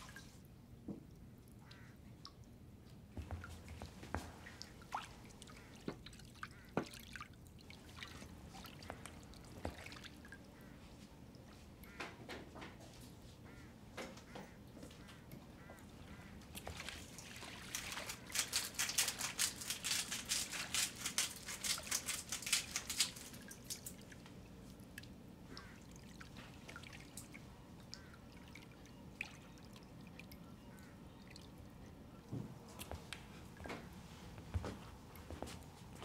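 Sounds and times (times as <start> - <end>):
faint drips: 0.0 - 12.1, 14.7 - 33.9.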